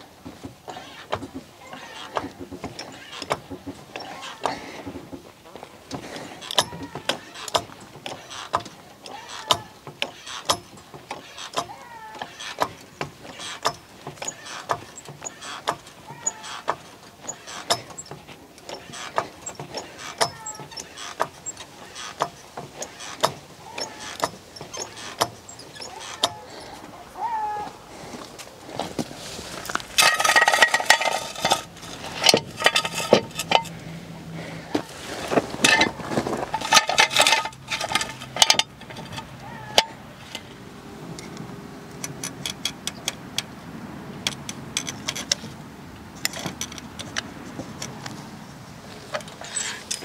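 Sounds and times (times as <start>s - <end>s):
trolley jack metallic clicks: 0.0s - 26.9s, 29.7s - 34.0s, 34.7s - 48.2s, 49.0s - 50.0s
jack squeaking: 0.0s - 43.6s, 44.2s - 50.0s.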